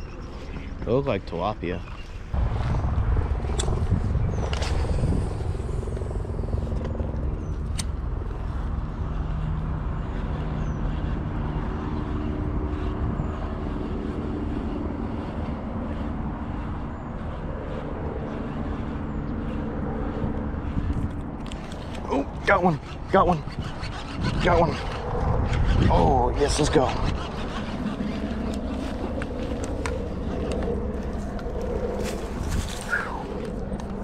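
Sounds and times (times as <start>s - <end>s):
engine rumble with hum tones: 2.3s - 34.0s.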